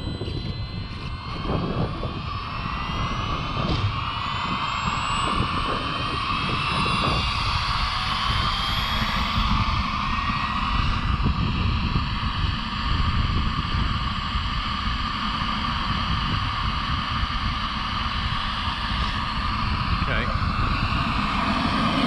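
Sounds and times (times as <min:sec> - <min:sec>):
high-pitched whine: 0:00.0 - 0:22.0
model jet turbine running: 0:00.0 - 0:22.0.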